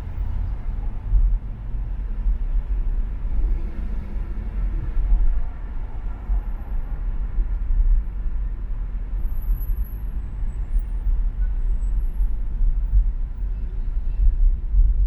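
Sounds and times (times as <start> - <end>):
car driving on expressway: 0.0 - 15.0.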